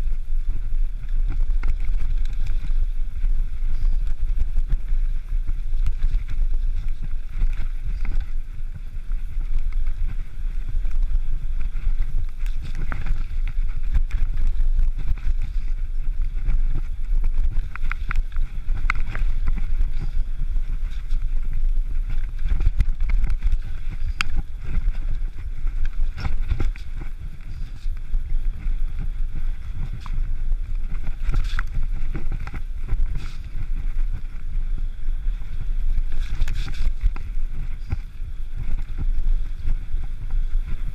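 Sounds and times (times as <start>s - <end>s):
bike rattling over stones: 0.0s - 40.9s
wind rumbling on microphone: 0.0s - 40.9s.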